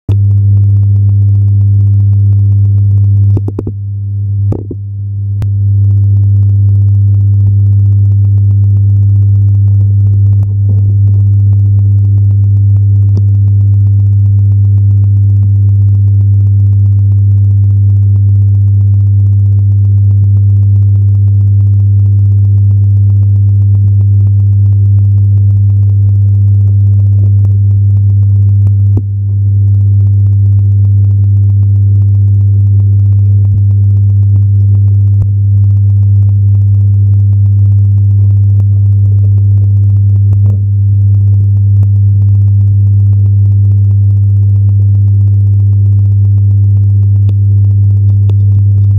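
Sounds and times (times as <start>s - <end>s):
low electrical hum: 0.1s - 48.9s.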